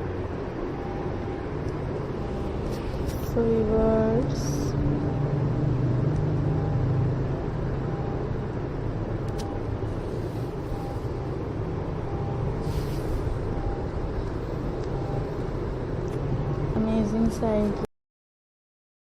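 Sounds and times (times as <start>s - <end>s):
low background rumble: 0.0s - 17.9s.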